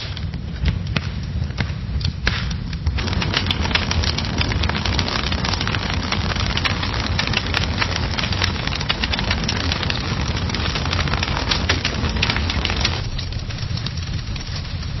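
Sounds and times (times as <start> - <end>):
fire crackling: 0.0 - 15.0
low steady rumble: 0.0 - 15.0.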